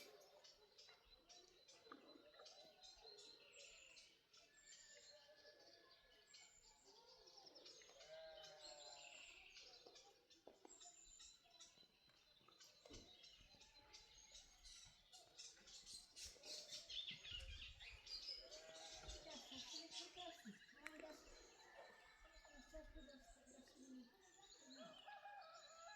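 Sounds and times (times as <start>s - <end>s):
faint birds chirping: 0.0s - 25.9s.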